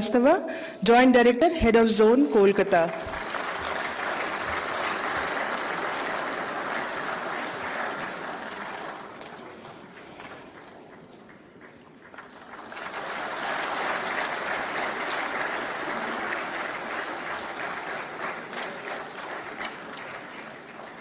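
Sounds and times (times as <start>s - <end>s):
audience applauding: 2.8s - 21.0s.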